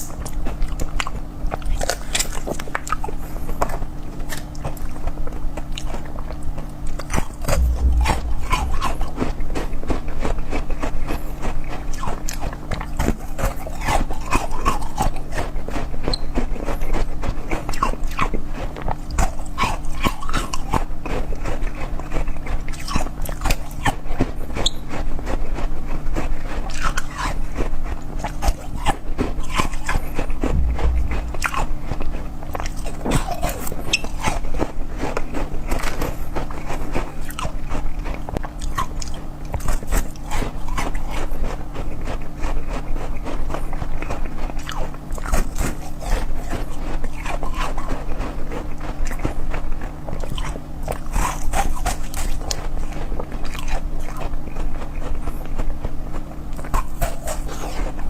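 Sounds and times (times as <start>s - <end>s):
close chewing and crunching: 0.0s - 58.0s.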